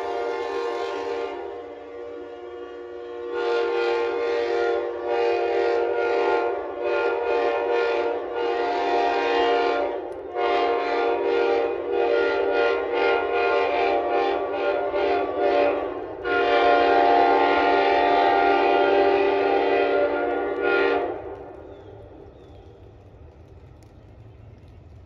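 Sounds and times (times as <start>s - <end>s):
train air horn wavering chord: 0.0s - 21.3s.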